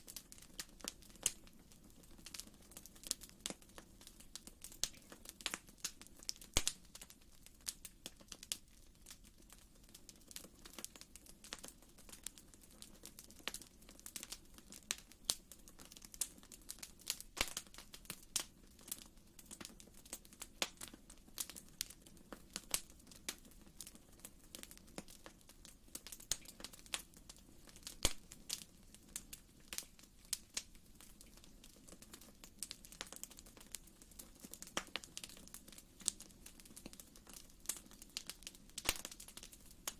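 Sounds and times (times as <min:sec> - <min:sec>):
soft low hiss: 0:00.0 - 0:39.9
wood fire crackling: 0:00.0 - 0:39.9.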